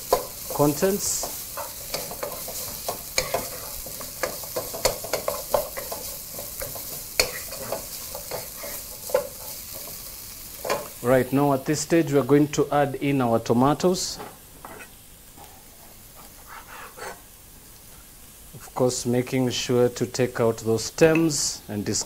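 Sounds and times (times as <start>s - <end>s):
vegetables sizzling in pot: 0.0s - 22.0s.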